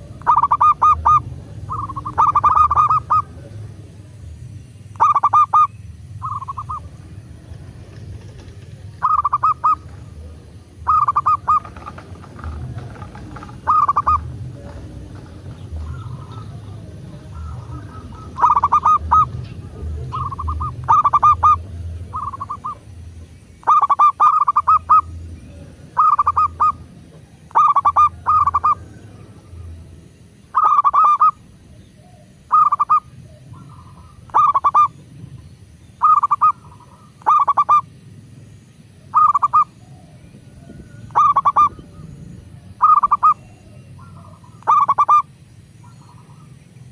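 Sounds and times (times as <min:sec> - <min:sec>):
dove cooing: 0:00.0 - 0:04.2, 0:04.9 - 0:35.4, 0:36.0 - 0:37.9, 0:38.9 - 0:46.9
faint bird calls: 0:00.0 - 0:46.9
low hum: 0:00.0 - 0:46.9.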